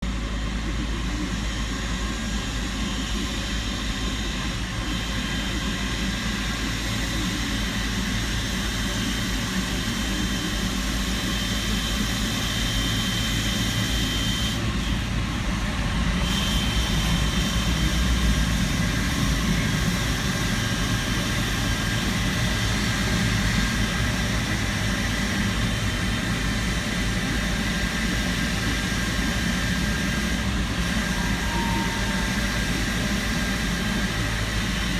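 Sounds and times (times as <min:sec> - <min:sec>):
jet engine whine and rumble: 0:00.0 - 0:34.9.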